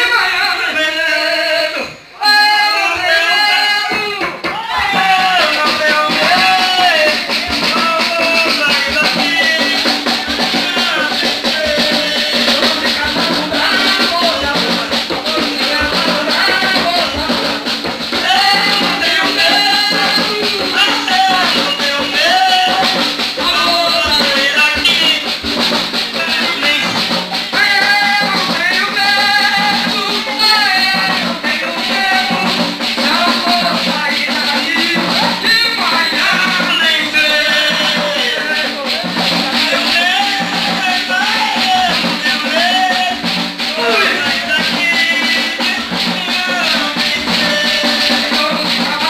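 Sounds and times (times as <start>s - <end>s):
man singing through microphone: 0.0s - 49.0s
hand drums: 2.2s - 49.0s
shaker rattles: 4.0s - 49.0s.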